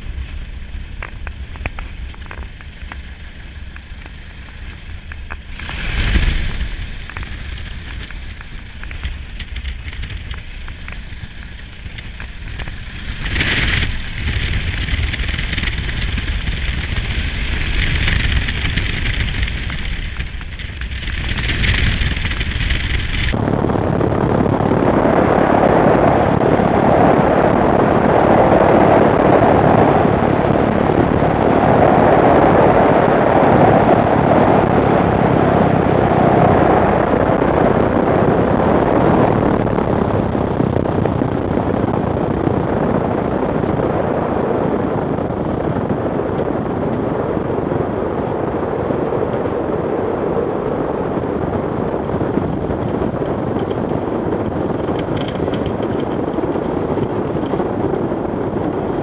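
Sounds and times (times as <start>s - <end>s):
aircraft engine and propeller running: 0.0s - 59.0s
wind rush: 0.0s - 59.0s.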